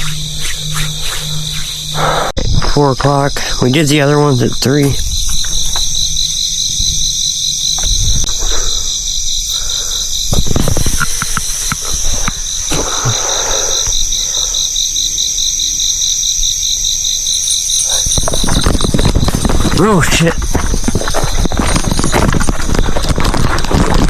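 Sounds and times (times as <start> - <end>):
continuous cricket trill: 0.0 - 24.0
pulsing insect chorus: 0.0 - 24.0.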